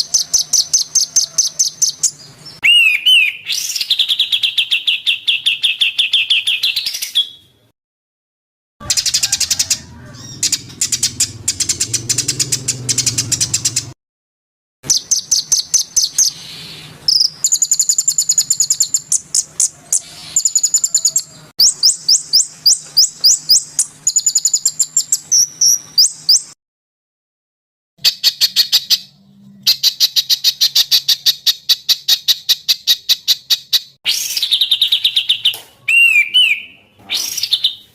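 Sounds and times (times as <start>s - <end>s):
songbirds singing: 0.0s - 7.5s, 8.8s - 14.0s, 14.9s - 26.6s, 28.0s - 37.9s.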